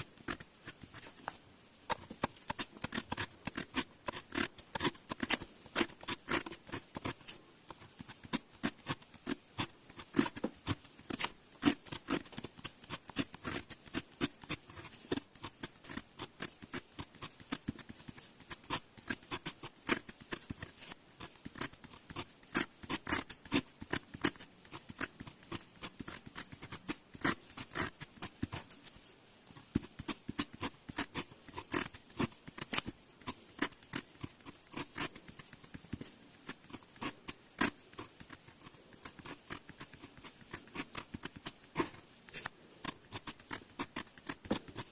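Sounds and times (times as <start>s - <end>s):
pen nib scratching on paper: 0.0s - 44.9s.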